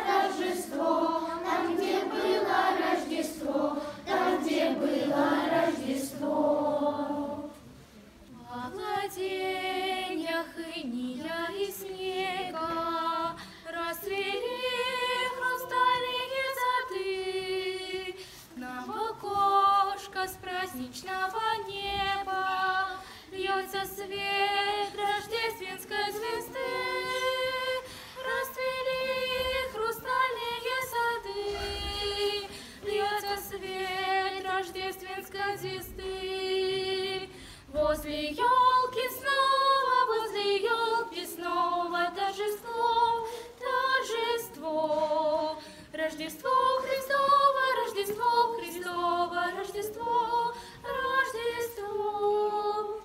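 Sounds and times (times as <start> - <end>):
children's choir singing: 0.0 - 53.0.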